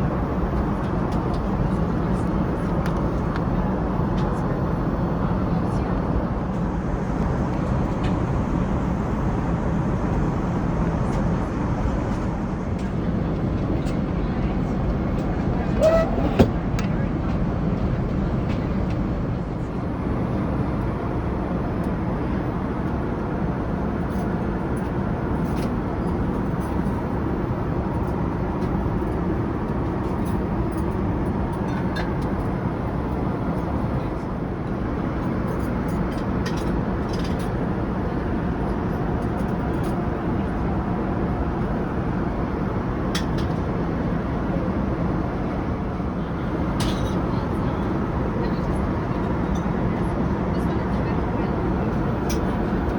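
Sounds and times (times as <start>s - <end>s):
airplane cabin engine rush: 0.0s - 52.9s.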